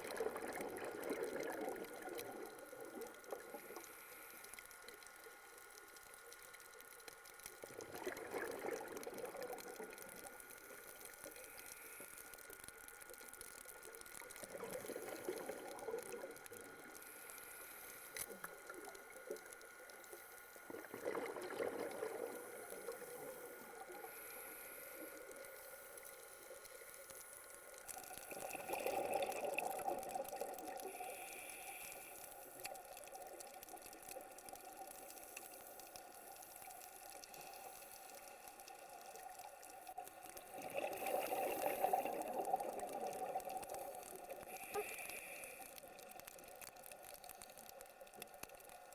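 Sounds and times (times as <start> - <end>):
underwater bubbles gurgling: 0.0 - 48.9.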